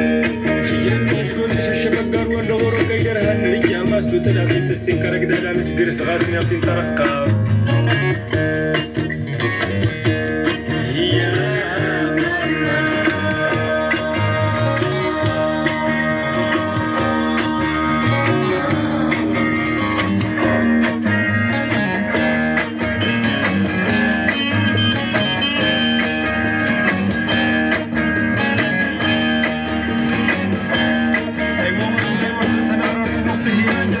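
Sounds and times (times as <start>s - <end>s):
guitar music with steady beat: 0.0s - 34.0s.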